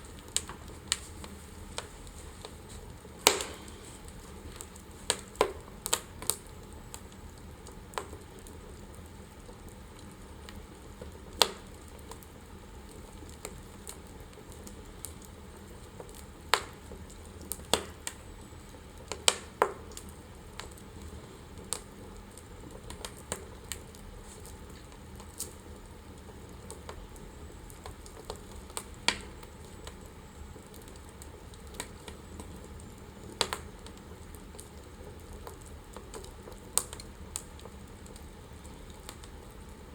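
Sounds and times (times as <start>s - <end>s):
fire crackles and pops: 0.0s - 39.9s
fire hissing: 0.0s - 39.9s.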